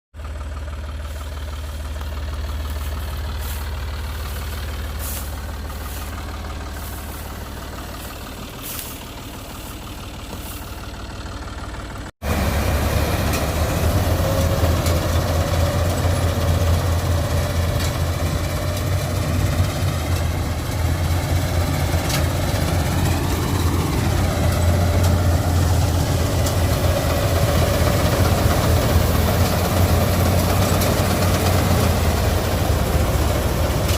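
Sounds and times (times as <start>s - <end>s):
harvester engine humming: 0.2s - 33.9s.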